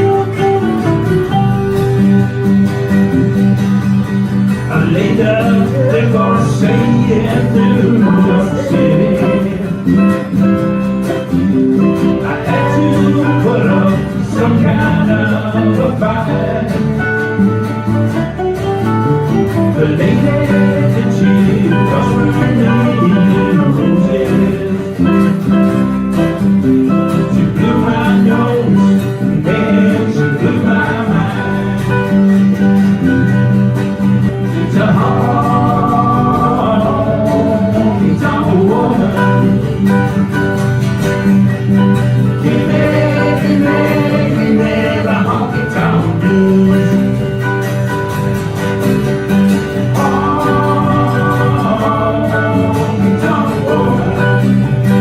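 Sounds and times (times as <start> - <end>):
acoustic country band playing: 0.0 - 55.0.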